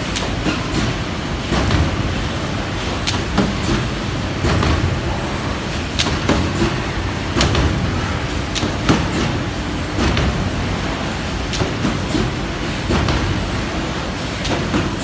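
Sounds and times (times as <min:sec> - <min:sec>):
machine running with steady rumble: 0:00.0 - 0:15.0.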